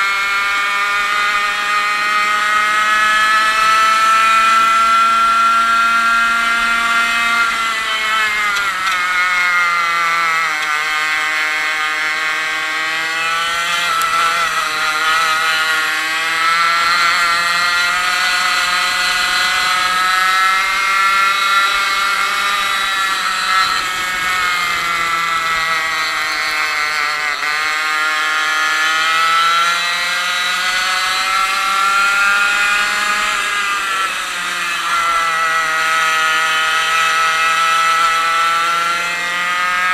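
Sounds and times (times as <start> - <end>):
two-stroke kart engine racing: 0.0 - 39.9.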